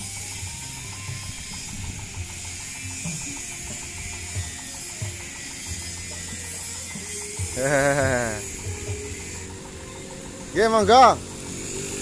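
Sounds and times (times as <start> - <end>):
mechanical ticking: 0.0 - 12.0
small engine idling: 0.0 - 12.0.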